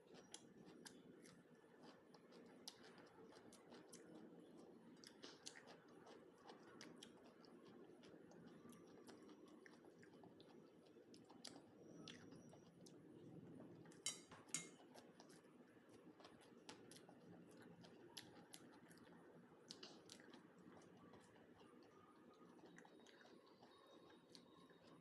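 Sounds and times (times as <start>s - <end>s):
faint chewing: 0.0s - 25.0s.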